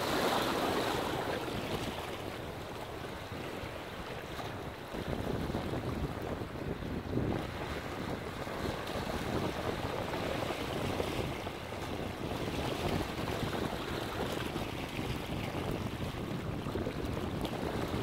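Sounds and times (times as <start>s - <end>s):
waves washing over rocks: 0.0s - 18.0s.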